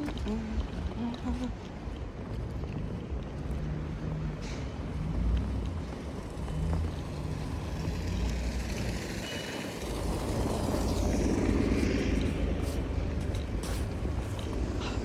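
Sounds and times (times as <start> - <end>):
steady low rumble: 0.0 - 9.1, 9.8 - 15.0.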